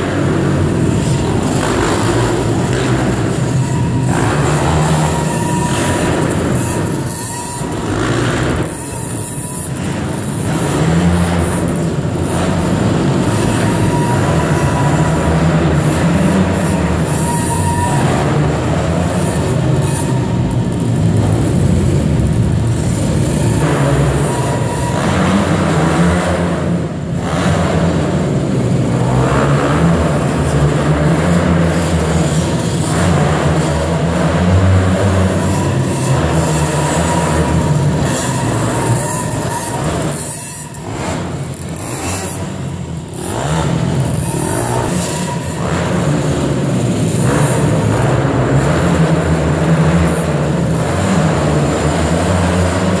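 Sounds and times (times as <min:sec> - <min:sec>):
motocross bikes revving: 0:00.0 - 0:53.0.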